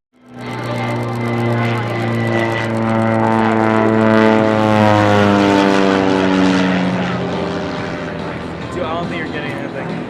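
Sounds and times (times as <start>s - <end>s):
propeller airplane flying past: 0.2s - 10.0s.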